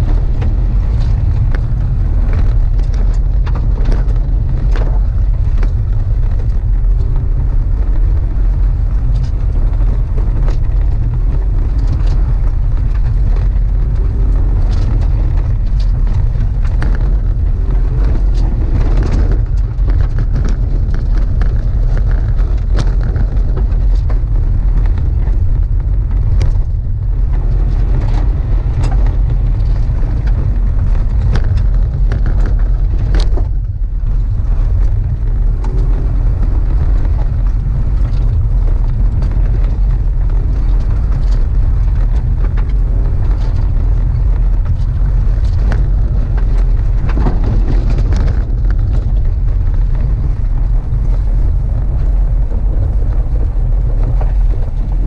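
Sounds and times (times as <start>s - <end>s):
engine rumble: 0.0s - 55.0s
wind buffeting microphone: 0.0s - 55.0s.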